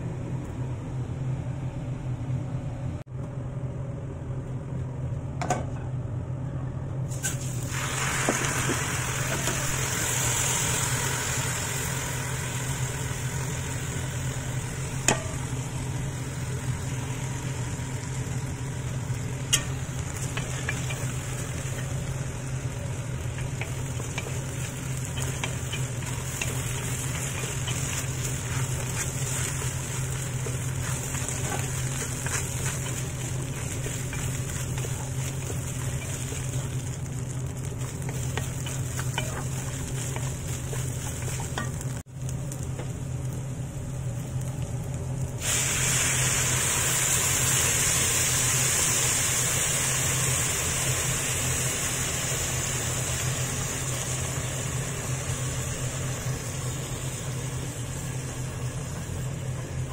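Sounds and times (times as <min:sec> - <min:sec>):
steady low hum: 0:00.0 - 0:59.9
rice sizzling in hot oil: 0:07.1 - 0:59.9.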